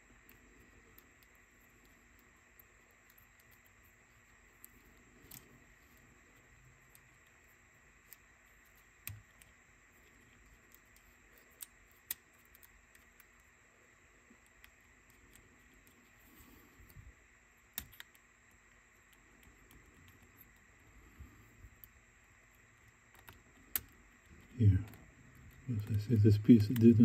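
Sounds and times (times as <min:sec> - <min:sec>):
small mechanism parts clicking: 0:00.2 - 0:13.6, 0:17.6 - 0:20.7, 0:21.7 - 0:27.0.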